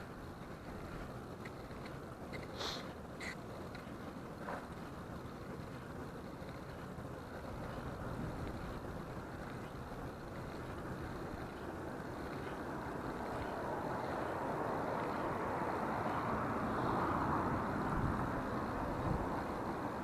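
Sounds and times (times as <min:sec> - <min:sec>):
wind buffeting microphone: 0:03.0 - 0:20.0.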